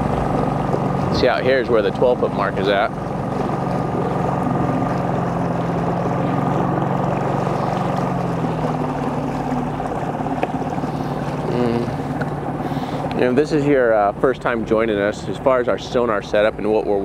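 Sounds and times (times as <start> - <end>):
boat motor humming: 0.0 - 17.0
water: 0.0 - 17.0
wind: 0.0 - 17.0.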